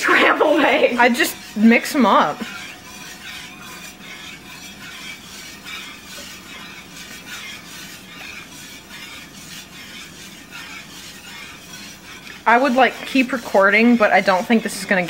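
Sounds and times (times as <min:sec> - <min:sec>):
whisk scraping metal pan: 0:00.0 - 0:15.0.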